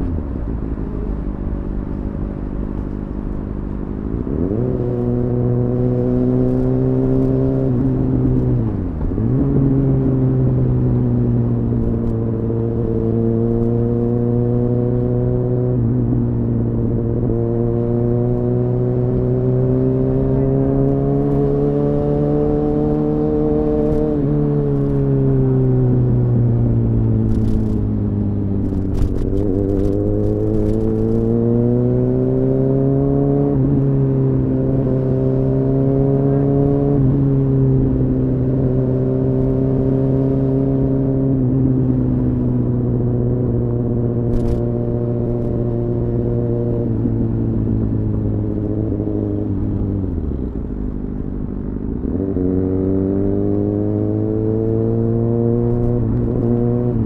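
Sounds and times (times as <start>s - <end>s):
motorcycle engine revving: 2.8s - 57.0s.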